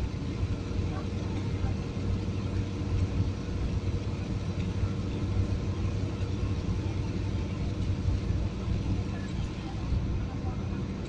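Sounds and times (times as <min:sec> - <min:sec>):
low city rumble: 0:00.0 - 0:11.0.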